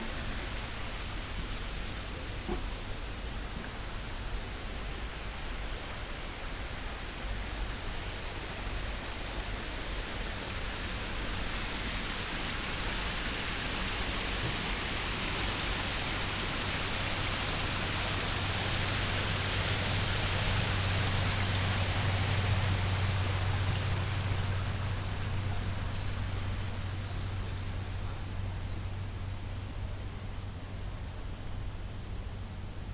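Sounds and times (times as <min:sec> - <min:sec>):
waterfall rushing hiss: 0:00.0 - 0:32.6.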